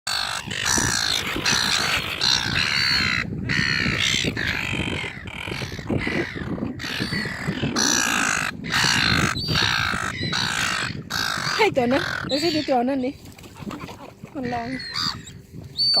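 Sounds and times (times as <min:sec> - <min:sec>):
seagulls calling: 0:00.1 - 0:16.0.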